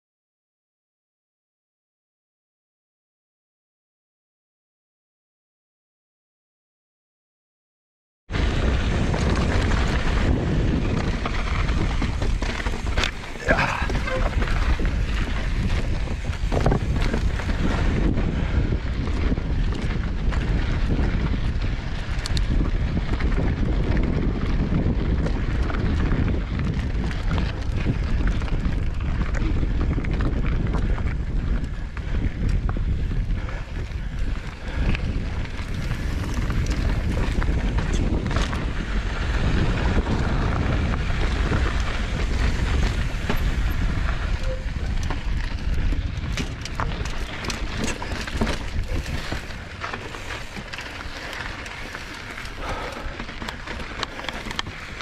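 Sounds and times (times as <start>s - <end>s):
tyres rumbling on dirt trail: 8.3s - 55.0s
wind buffeting microphone: 8.3s - 55.0s
bike clicks and rattles: 8.4s - 55.0s.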